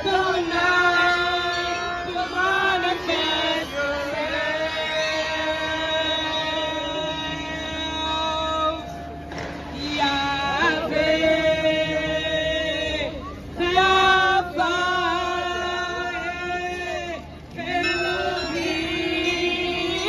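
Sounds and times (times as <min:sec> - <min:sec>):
woman singing into microphone: 0:00.0 - 0:09.1, 0:09.7 - 0:20.0
voices singing along: 0:00.0 - 0:20.0.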